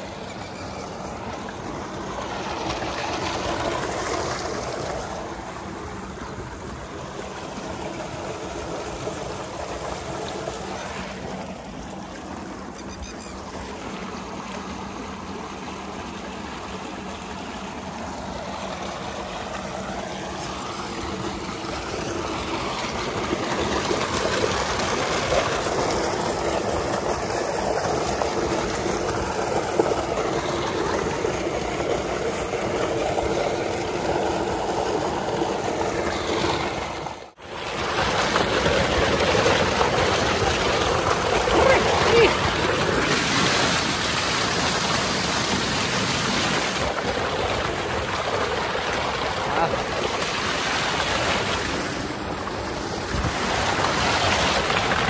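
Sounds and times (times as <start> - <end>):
pump machine hum: 0.0 - 55.0
water rushing and splashing: 0.0 - 55.0.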